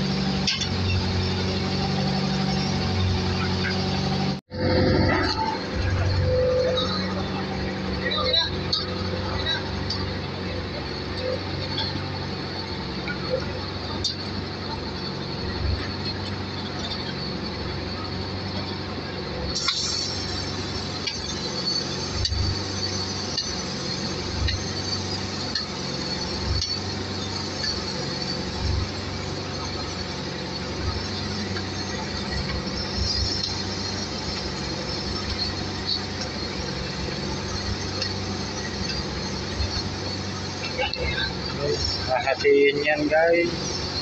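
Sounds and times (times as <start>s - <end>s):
diesel engine running: 0.0s - 44.0s
high whine: 0.0s - 44.0s.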